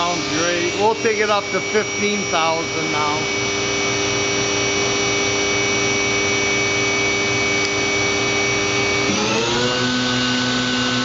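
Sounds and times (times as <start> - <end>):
machine spindle whine: 0.0 - 11.0.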